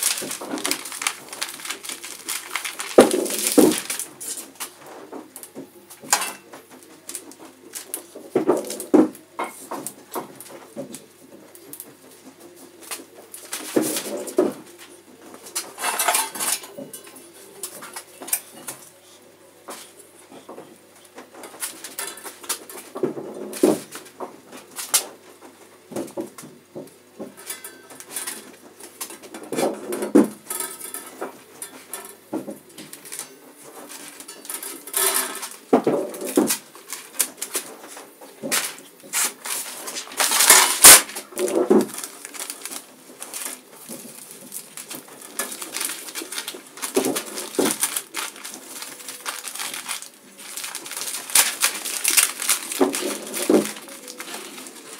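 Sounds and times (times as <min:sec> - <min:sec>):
paper rustling and crinkling: 0:00.0 - 0:26.3, 0:27.2 - 0:54.9.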